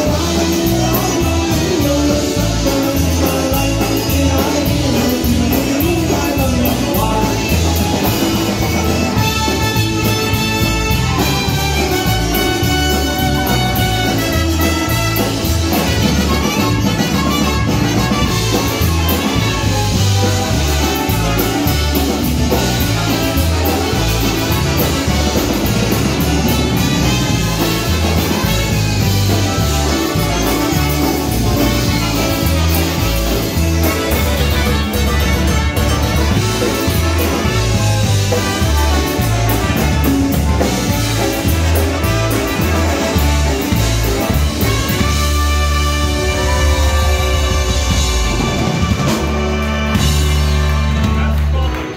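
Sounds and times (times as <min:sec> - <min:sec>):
concertinas: 0:00.0 - 0:51.9
drum kit: 0:00.0 - 0:51.9
electric bass: 0:00.0 - 0:51.9
saxophone: 0:00.0 - 0:51.9
trumpet: 0:00.0 - 0:51.9.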